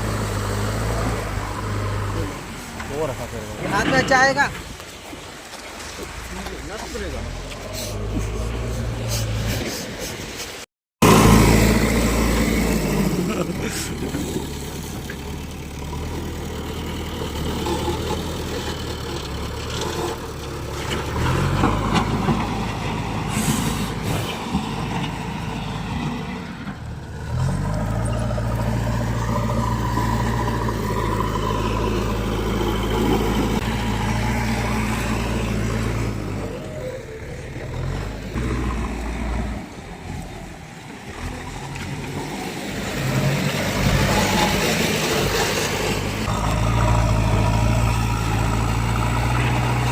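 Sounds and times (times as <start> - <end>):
heavy diesel engine revving: 0.0 - 3.9, 11.0 - 49.9.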